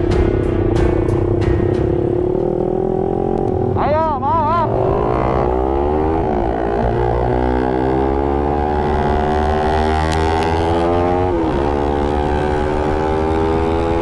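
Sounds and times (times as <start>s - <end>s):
motorcycle engine running hard: 0.0s - 14.0s.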